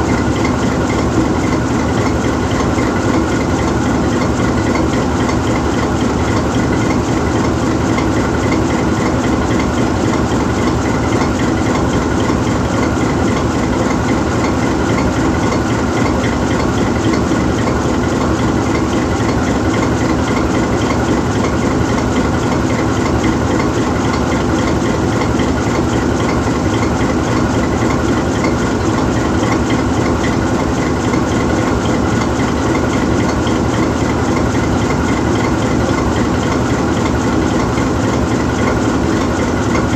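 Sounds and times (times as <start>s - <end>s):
locomotive diesel engine idling: 0.0s - 39.9s.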